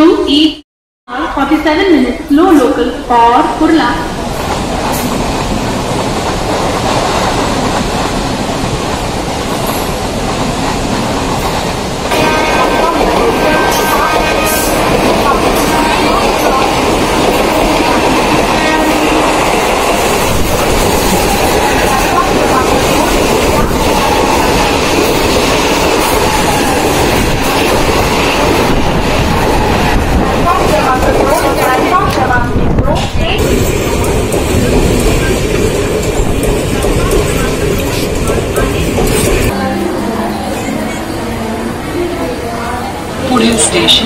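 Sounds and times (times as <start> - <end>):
train wheels on rails: 4.0 - 44.0
train coach rattling: 4.1 - 44.0.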